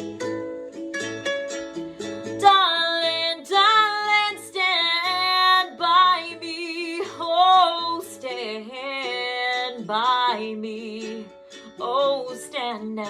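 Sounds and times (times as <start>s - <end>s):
ukulele accompaniment: 0.0s - 13.0s.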